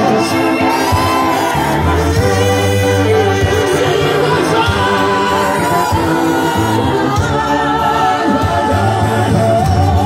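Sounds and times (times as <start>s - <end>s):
band with bass line: 0.0s - 10.0s
voices singing held notes: 0.0s - 10.0s.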